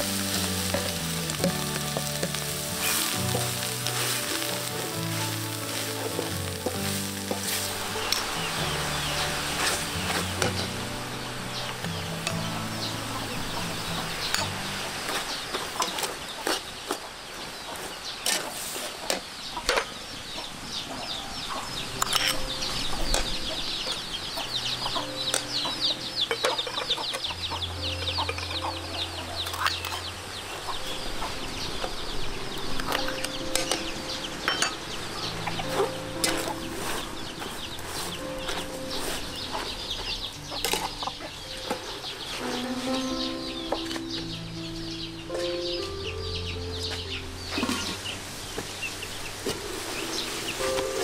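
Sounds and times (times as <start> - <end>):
chickens clucking and chirping: 0.0 - 51.0.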